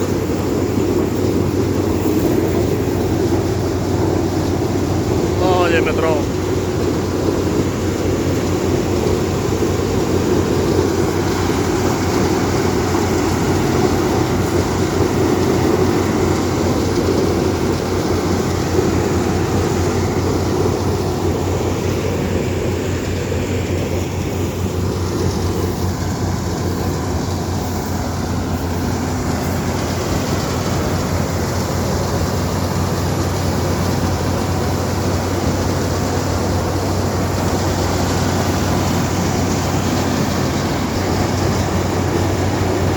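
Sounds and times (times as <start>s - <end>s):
harvester engine humming: 0.0s - 42.9s.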